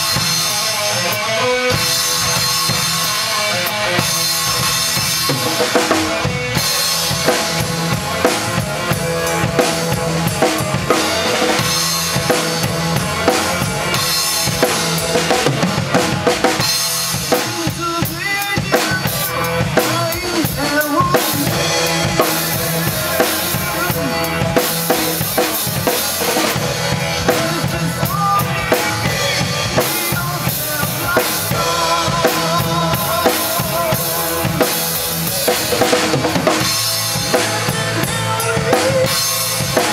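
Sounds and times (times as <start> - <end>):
drum kit playing: 0.0 - 39.9
recorded rock song: 0.0 - 39.9.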